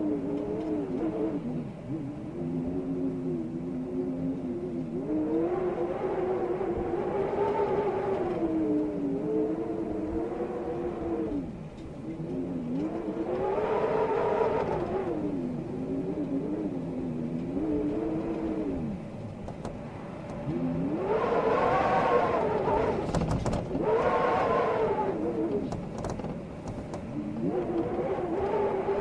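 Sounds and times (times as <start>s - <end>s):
storm wind howling: 0.0s - 29.0s.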